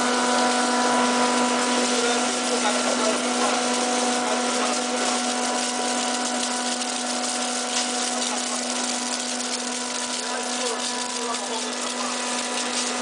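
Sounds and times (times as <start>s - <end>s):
ice machine hum: 0.0s - 13.0s.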